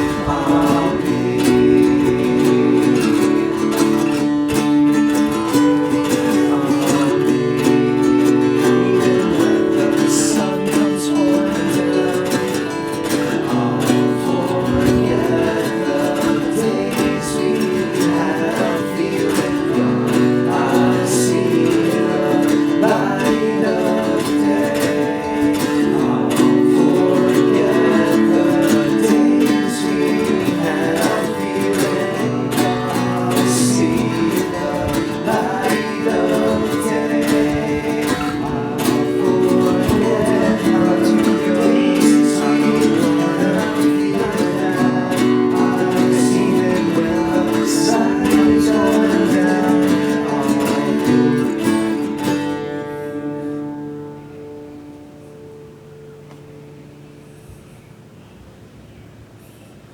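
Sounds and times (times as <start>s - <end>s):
acoustic band music: 0.0s - 57.7s
strummed acoustic guitar: 0.0s - 58.2s.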